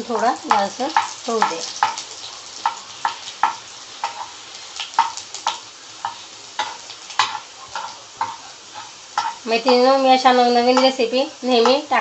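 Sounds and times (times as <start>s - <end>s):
garlic sizzling in hot oil: 0.0s - 12.0s.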